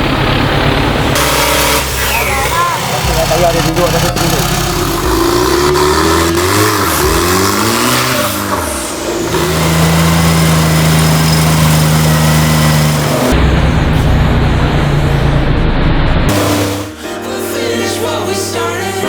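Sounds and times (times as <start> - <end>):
engine revving: 0.0 - 17.1.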